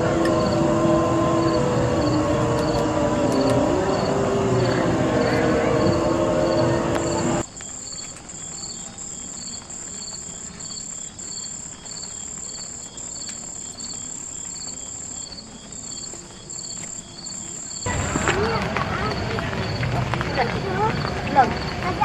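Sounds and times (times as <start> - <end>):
low pulsing insect chirp: 0.0 - 17.9
insects trilling: 0.0 - 22.0.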